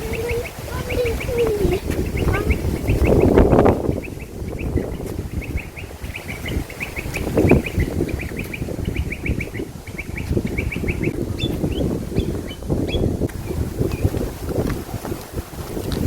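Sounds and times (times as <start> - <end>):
bird chirping: 0.0 - 14.1
wind buffeting microphone: 0.0 - 16.0.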